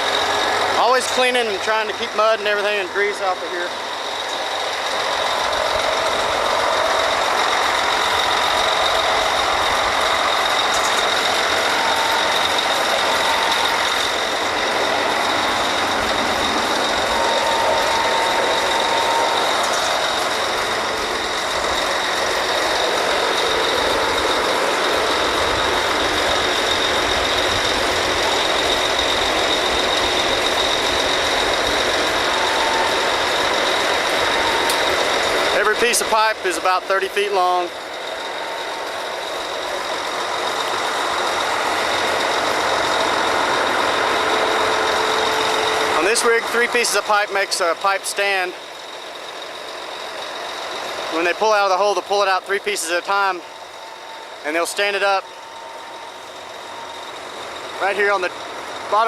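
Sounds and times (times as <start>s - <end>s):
drilling rig machinery running: 0.0s - 59.0s
high mechanical whine: 0.0s - 59.0s.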